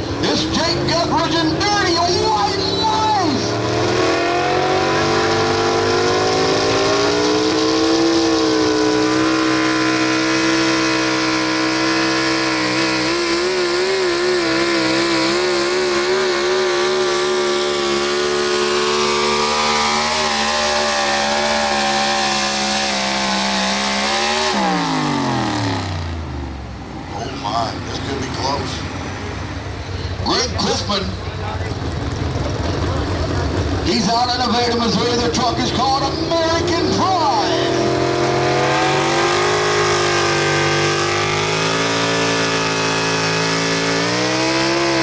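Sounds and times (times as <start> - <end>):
truck engine revving hard: 0.0 - 29.6, 30.2 - 45.0.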